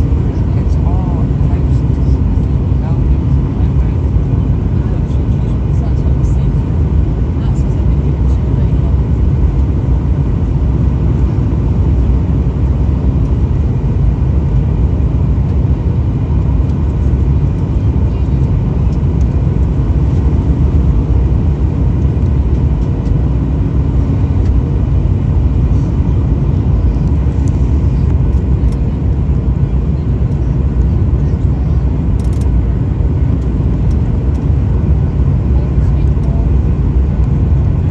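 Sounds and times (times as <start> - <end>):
airliner cabin rumble: 0.0 - 37.9.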